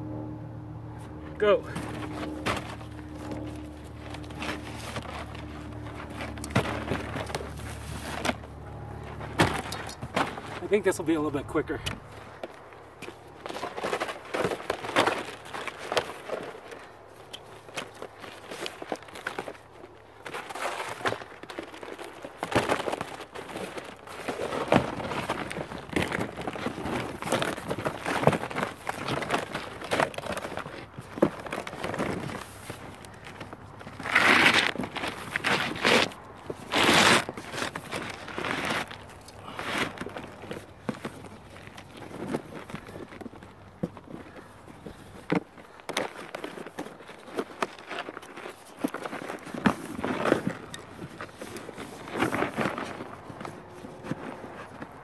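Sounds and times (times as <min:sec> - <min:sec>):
plastic panels rustling and scraping: 0:01.7 - 0:55.0.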